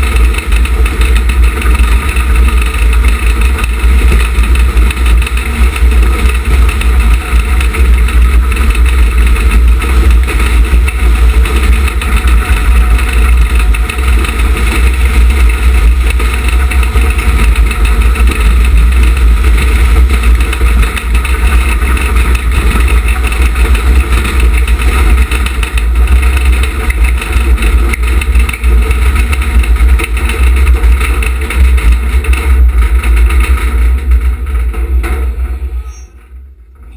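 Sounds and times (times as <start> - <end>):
wheels rolling on concrete: 0.0 - 36.9.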